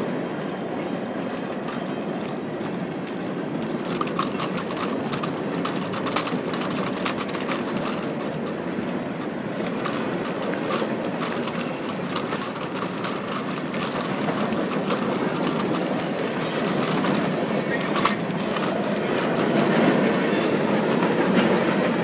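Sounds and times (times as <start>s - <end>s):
freight train cars rolling: 0.0s - 22.0s
wheels clicking and clacking: 0.0s - 22.0s.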